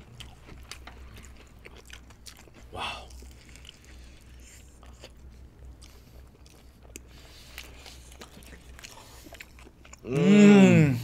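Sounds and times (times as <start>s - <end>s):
chewing crispy burger: 0.0s - 10.5s
low steady hum: 0.0s - 11.0s.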